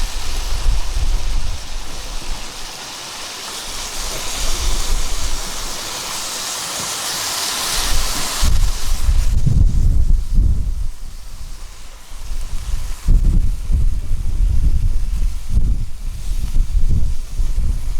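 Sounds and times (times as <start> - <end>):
wind buffeting microphone: 0.0 - 2.7, 3.7 - 5.8, 7.8 - 17.9
wave washing over rocks: 0.0 - 17.9.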